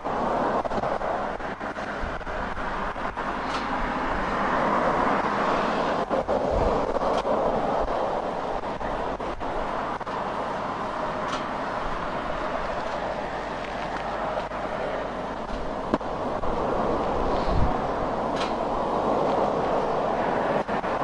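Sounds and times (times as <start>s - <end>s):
highway traffic passing: 0.0s - 21.0s.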